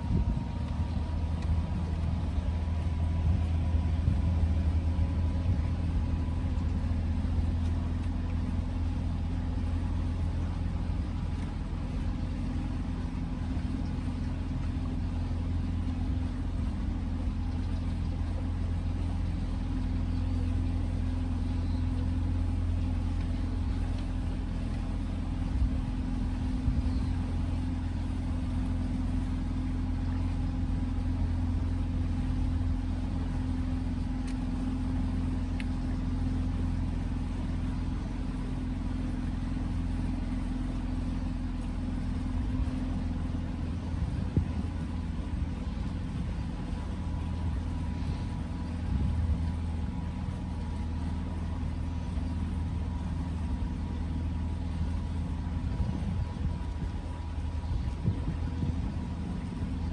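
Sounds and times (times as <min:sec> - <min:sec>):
outboard motor droning: 0:00.0 - 0:59.9.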